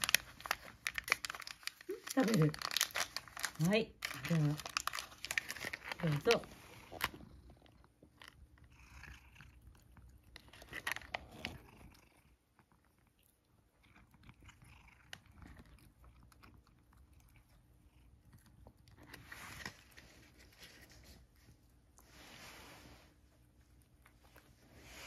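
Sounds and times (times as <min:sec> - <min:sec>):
cat crunching dry treats: 0:00.0 - 0:21.6.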